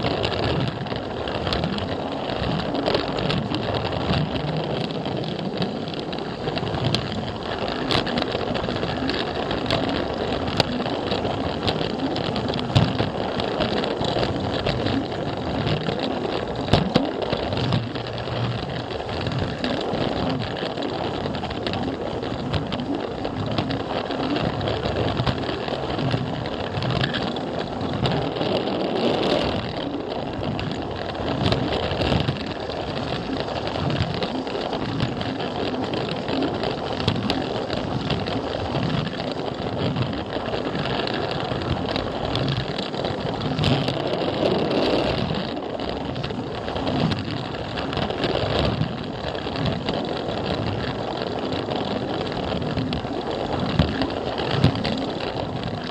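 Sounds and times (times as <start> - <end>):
wheels clicking over rail joints: 0.0 - 55.9.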